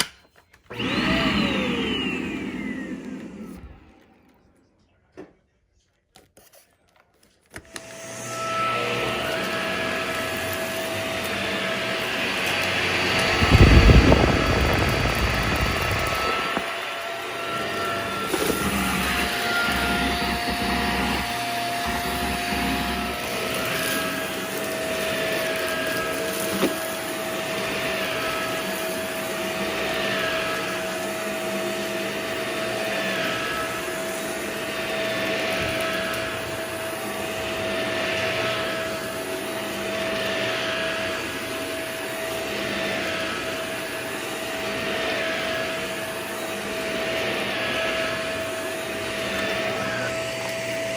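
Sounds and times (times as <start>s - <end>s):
vacuum cleaner running: 0.0s - 4.4s, 7.5s - 50.9s.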